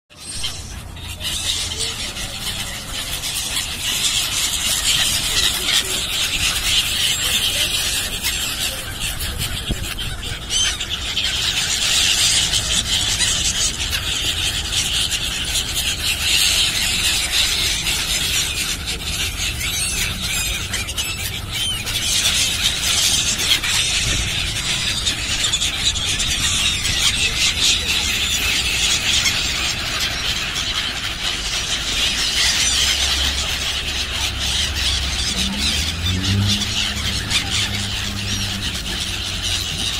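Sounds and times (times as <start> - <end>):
gulls calling: 0.1 - 39.9.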